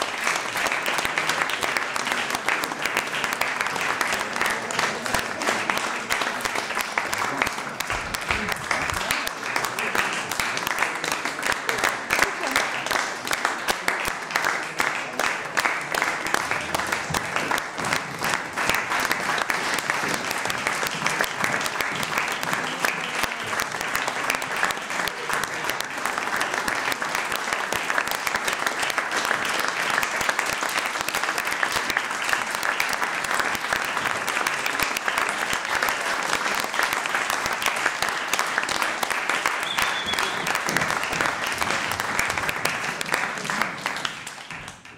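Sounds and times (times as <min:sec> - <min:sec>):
audience applauding: 0:00.0 - 0:44.9.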